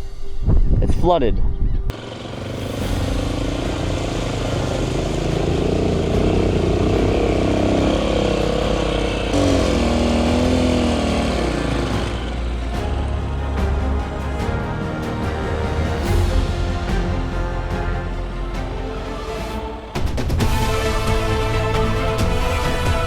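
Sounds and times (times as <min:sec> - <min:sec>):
motorcycle engine revving: 0:01.9 - 0:23.0.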